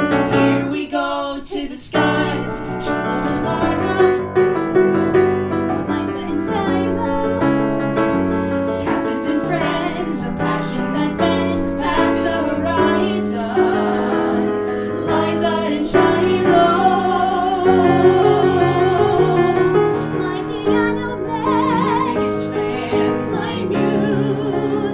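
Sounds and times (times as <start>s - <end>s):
piano accompaniment: 0.0s - 1.3s, 1.9s - 24.9s
woman singing: 0.0s - 4.4s, 5.4s - 24.9s.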